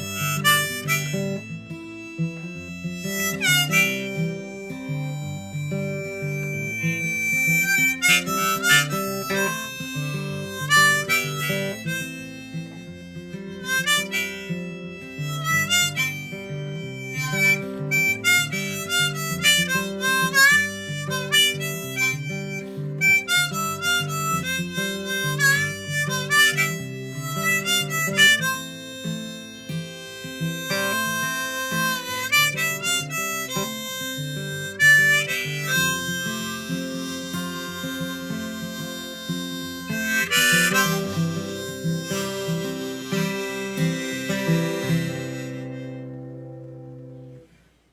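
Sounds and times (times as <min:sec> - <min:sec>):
harmonica melody: 0:00.0 - 0:47.5
guitar chords: 0:00.0 - 0:47.7.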